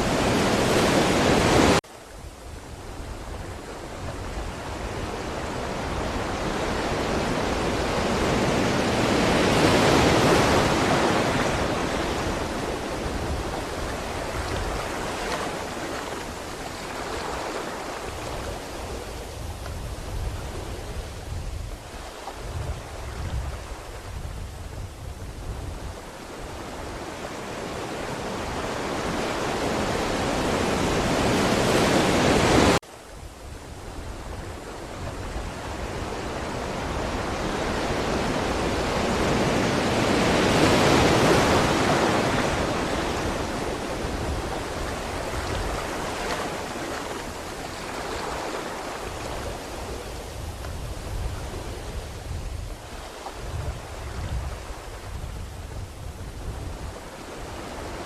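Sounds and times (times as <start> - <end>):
ocean waves washing in: 0.0 - 58.0.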